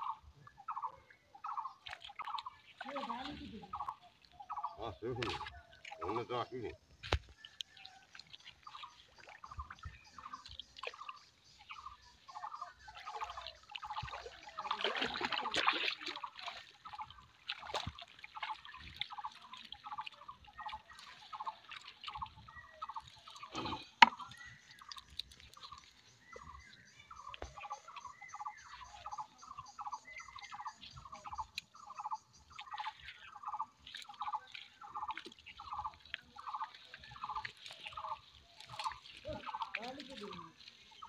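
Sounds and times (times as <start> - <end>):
water splashing and dripping: 0.0 - 41.0
rush of water: 1.4 - 41.0.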